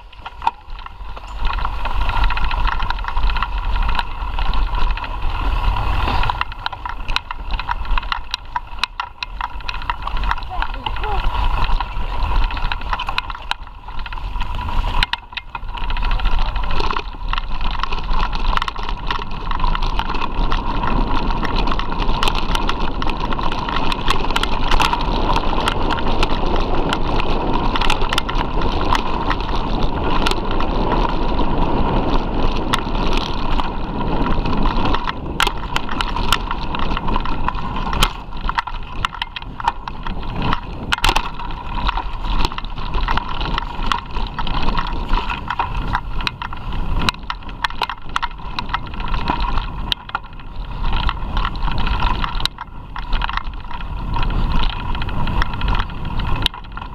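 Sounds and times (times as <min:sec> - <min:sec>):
bike rattles and knocks: 0:00.0 - 0:56.9
bike tyres rumbling over dirt: 0:00.0 - 0:56.9.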